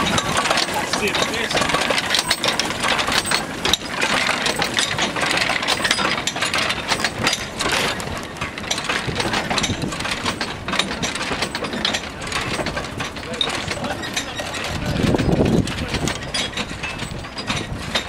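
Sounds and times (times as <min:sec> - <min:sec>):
steam locomotive clanking: 0:00.0 - 0:18.0.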